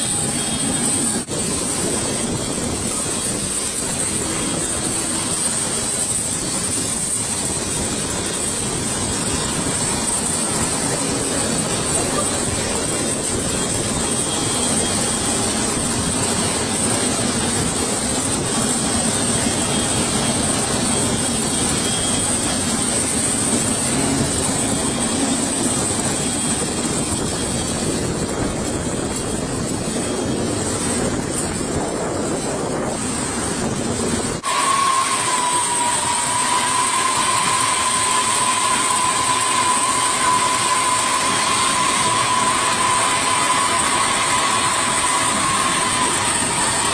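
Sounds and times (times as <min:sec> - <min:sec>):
high whine: 0:00.0 - 0:46.9
jet machinery noise: 0:00.0 - 0:46.9.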